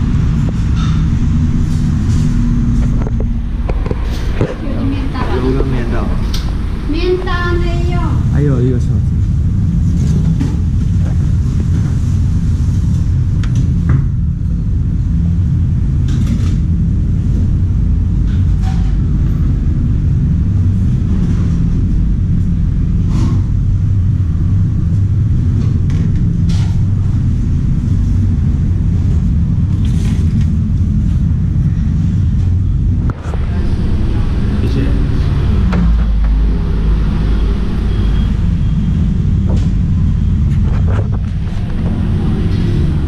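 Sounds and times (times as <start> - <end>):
restaurant background rumble: 0.0 - 43.0.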